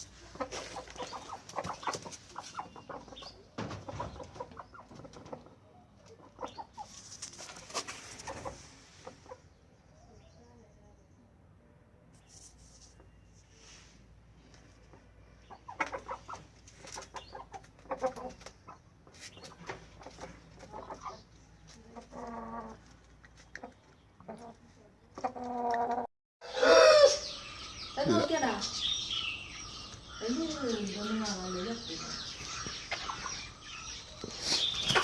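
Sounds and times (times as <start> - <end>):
chickens clucking: 0.0 - 9.8, 14.4 - 35.0.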